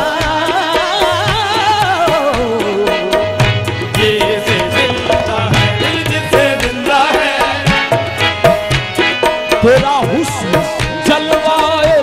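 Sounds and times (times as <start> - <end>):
harmonium chords: 0.0 - 12.0
tabla drumming: 0.0 - 12.0.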